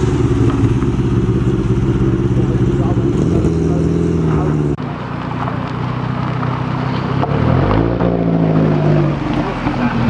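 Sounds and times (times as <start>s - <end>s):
car engines idling: 0.0s - 10.0s.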